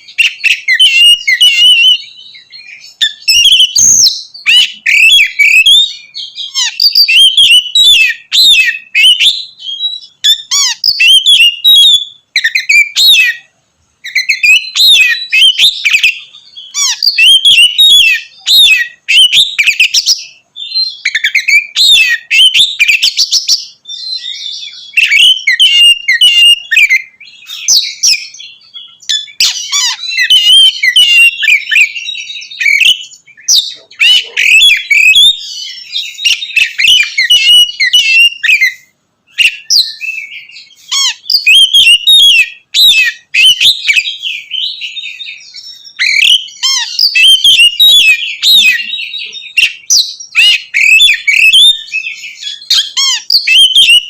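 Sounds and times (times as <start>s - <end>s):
bird singing whistled song: 0.0s - 54.0s.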